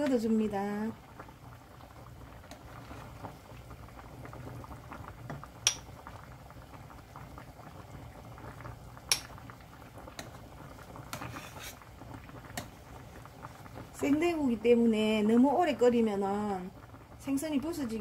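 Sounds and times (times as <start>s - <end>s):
stew bubbling in a pot: 0.0s - 18.0s.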